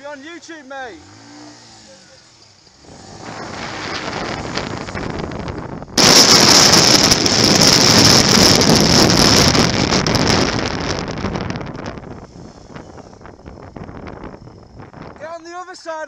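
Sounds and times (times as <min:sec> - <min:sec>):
motorcycle engine and wind rushing: 0:00.0 - 0:16.0.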